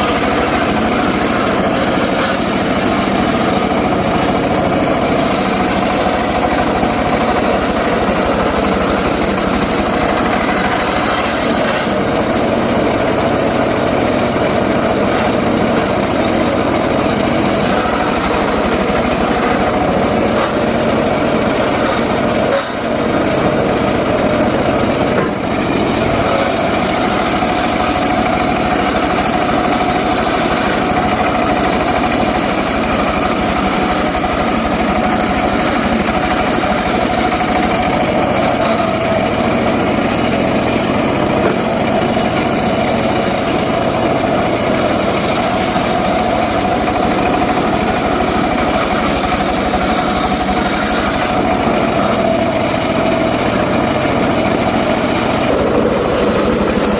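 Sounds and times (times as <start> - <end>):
engine-driven circular saw whine: 0.0 - 56.9.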